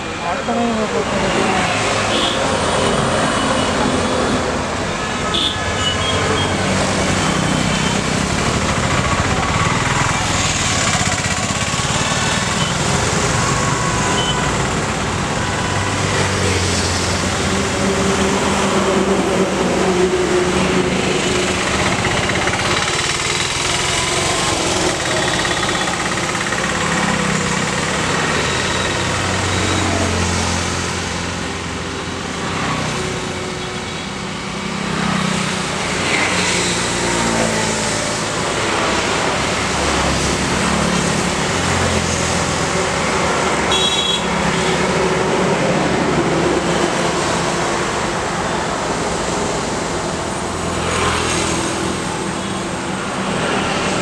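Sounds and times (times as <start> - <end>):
highway traffic passing: 0.0 - 54.0.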